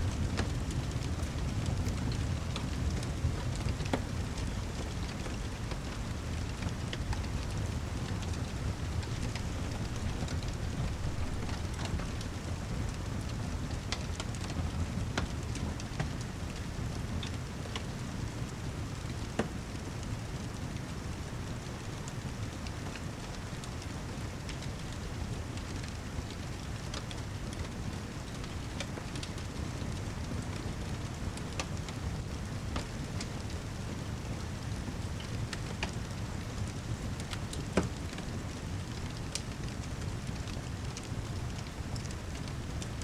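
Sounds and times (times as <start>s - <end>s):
heavy rain: 0.0s - 43.0s
wood fire crackling and popping: 0.0s - 43.0s.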